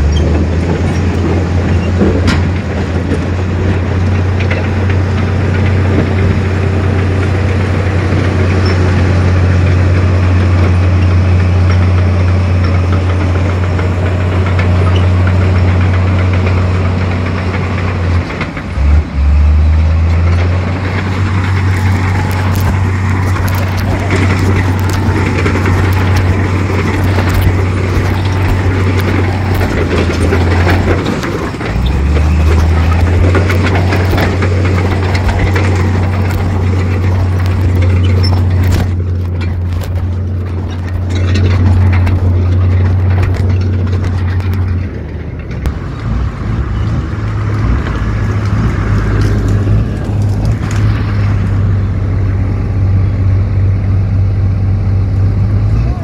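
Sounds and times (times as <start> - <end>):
clatter: 0.0 - 53.8
heavy diesel engine droning: 0.0 - 56.0.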